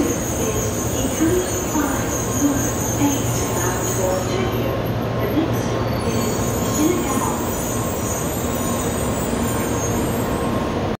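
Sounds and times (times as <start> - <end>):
train rumbling slowly: 0.0 - 11.0.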